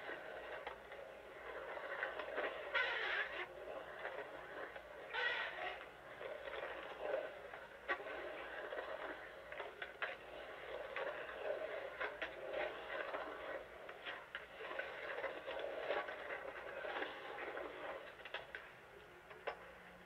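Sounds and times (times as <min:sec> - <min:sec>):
skateboard clicks and clacks: 0:00.0 - 0:20.0
skateboard wheels rolling on concrete: 0:00.0 - 0:20.0.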